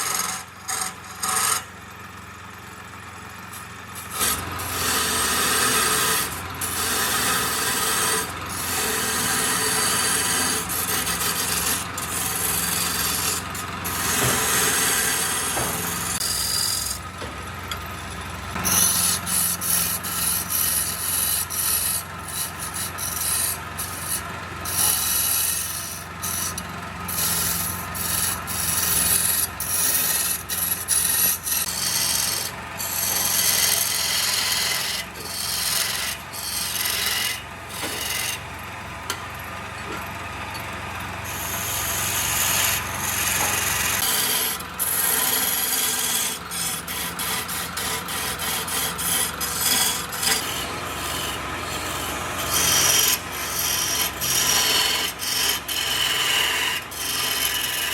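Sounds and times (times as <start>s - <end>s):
lathe motor hum: 0.0s - 1.6s, 3.5s - 57.9s
tool scraping spinning wood: 0.0s - 1.8s, 2.9s - 57.9s.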